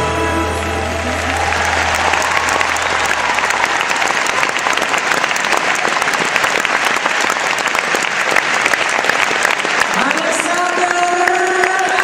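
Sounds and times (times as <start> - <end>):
audience applauding: 0.4 - 12.0.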